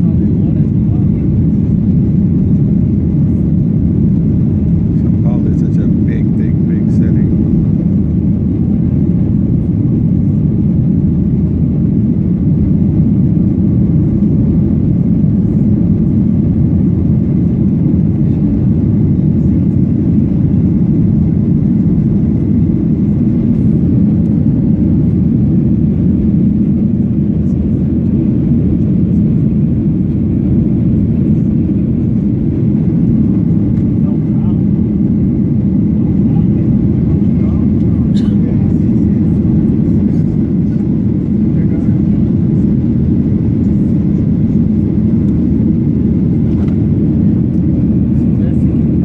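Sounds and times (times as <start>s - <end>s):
jet engines and airflow rumble: 0.0s - 49.0s.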